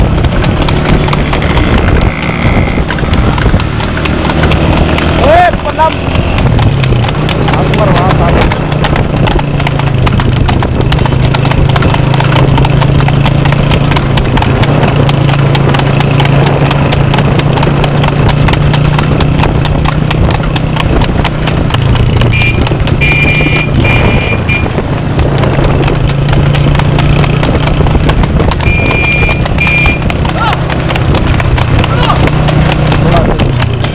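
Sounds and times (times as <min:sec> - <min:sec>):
horse hooves clip-clopping on asphalt: 0:00.0 - 0:33.9.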